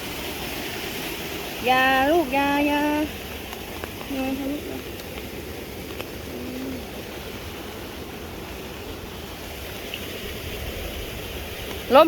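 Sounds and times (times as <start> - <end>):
fast-flowing floodwater rushing: 0.0 - 12.0.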